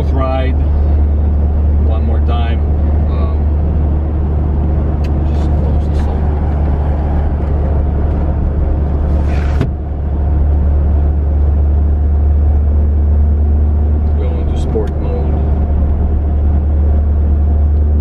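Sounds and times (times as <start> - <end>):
diesel engine and tyre drone: 0.0 - 18.0.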